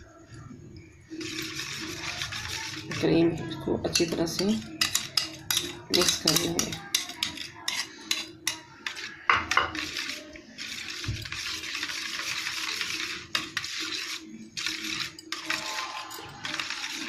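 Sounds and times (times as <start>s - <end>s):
whisk clinking against a steel pot: 1.1s - 17.0s.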